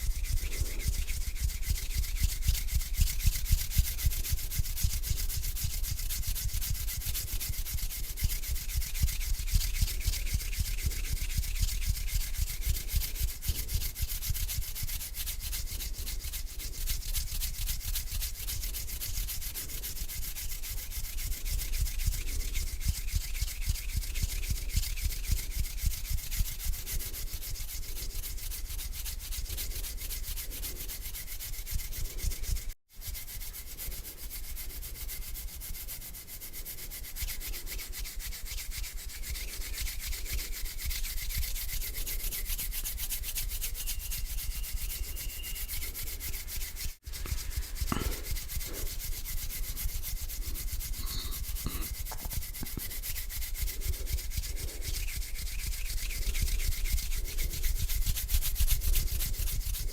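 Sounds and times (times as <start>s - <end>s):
hands rubbing together: 0.0s - 59.9s.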